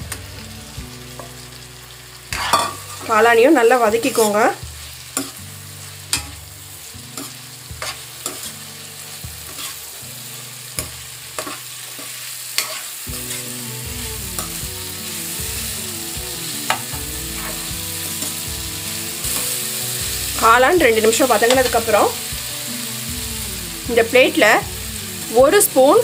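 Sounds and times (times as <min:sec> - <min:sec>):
vegetables sizzling in oil: 0:00.0 - 0:26.0.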